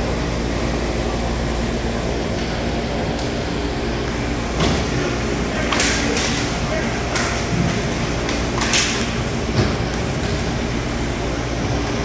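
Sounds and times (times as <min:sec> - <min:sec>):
low rink hum: 0:00.0 - 0:12.0.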